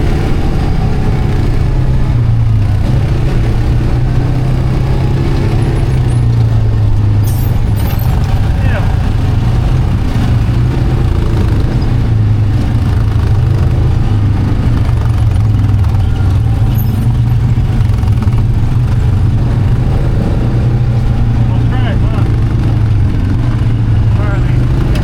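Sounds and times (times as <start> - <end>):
atv engine droning: 0.0 - 25.0.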